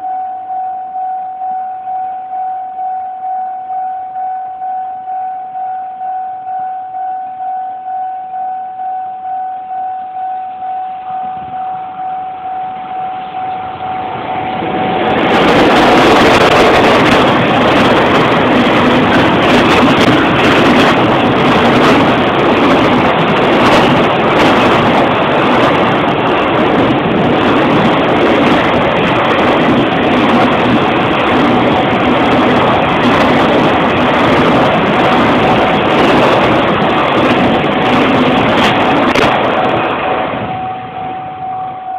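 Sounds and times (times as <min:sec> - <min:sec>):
freight train passing: 0:00.0 - 0:41.9.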